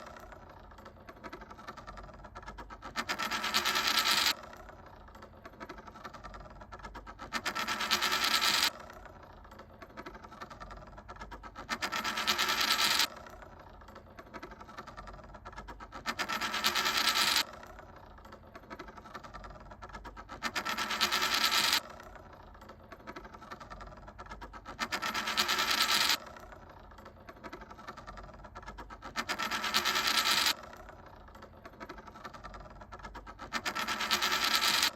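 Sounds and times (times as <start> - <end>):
coin spinning and clattering: 0.0 - 34.9.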